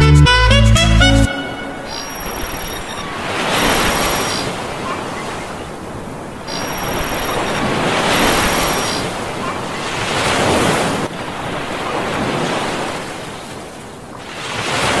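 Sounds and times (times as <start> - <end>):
sea waves washing: 1.3 - 15.0.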